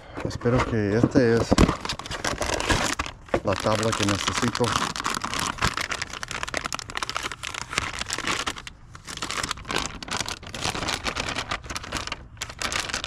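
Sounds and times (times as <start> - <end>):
plastic packaging crinkling: 1.1 - 13.0.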